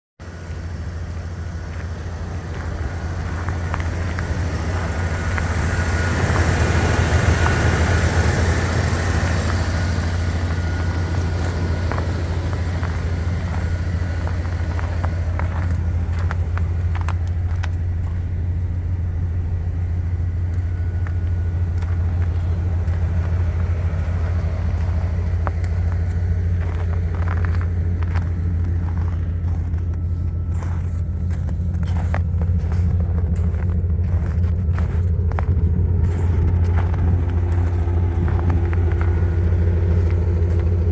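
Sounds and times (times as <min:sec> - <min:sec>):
truck engine idling: 0:00.2 - 0:40.9.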